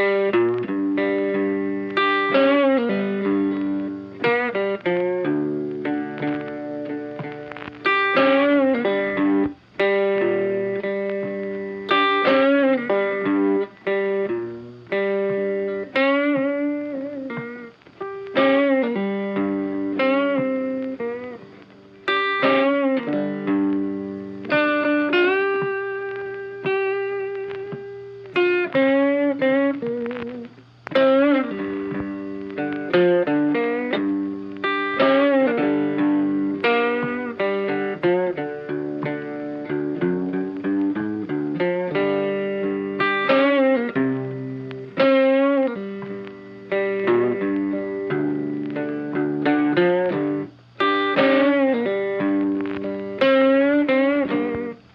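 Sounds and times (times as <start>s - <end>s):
funky plucked guitar music: 0.0s - 54.9s.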